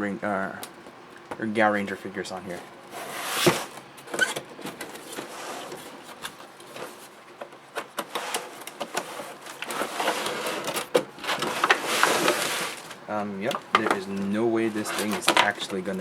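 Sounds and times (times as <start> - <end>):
packaging rustling: 2.5 - 16.0
packaging scraping: 2.5 - 16.0.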